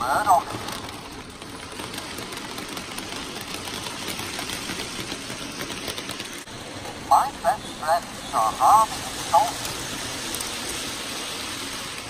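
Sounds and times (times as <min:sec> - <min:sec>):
model train whirring and rattling: 0:00.0 - 0:12.0.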